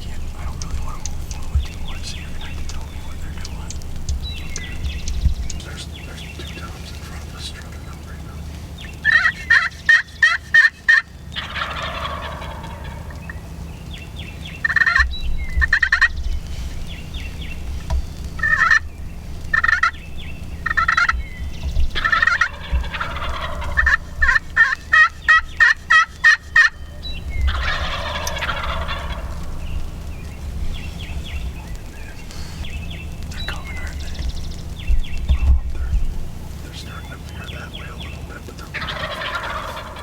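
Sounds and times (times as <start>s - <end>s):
turkey gobbling: 0.0s - 40.0s.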